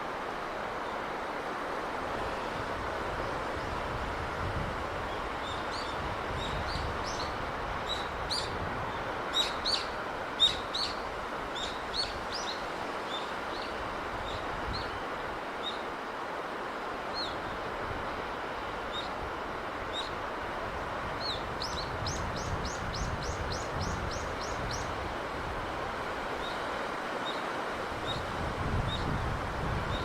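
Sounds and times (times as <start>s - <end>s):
sea breeze and surf: 0.0s - 30.0s.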